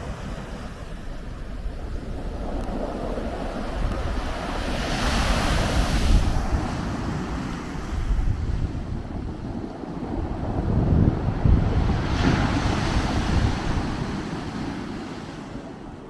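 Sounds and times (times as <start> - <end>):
wind gusting over microphone: 0.0 - 16.0.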